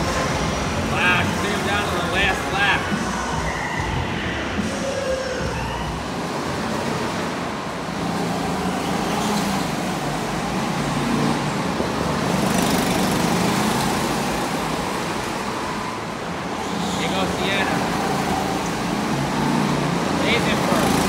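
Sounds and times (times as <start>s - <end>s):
go-kart motors running: 0.0s - 21.0s.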